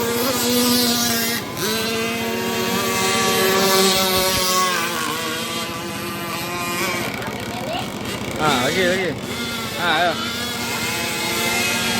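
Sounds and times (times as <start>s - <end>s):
model boat motor whining: 0.0s - 11.9s.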